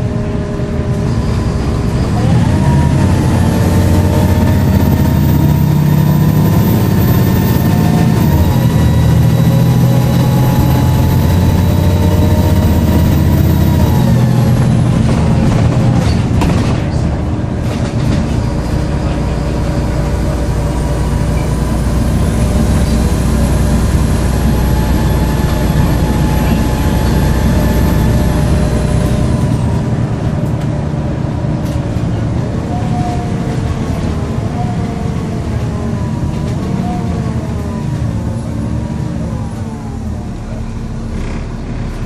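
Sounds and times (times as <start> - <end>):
bus diesel engine pulling away: 0.0 - 42.0.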